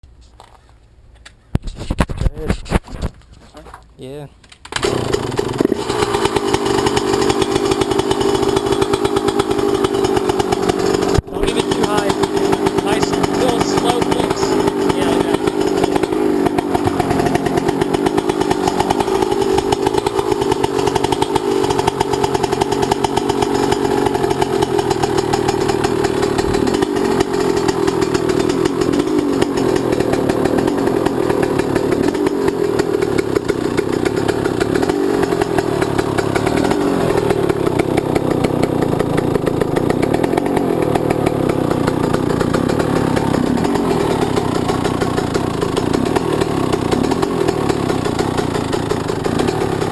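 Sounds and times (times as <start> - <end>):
two-stroke dirt bike engine running: 4.7 - 49.9.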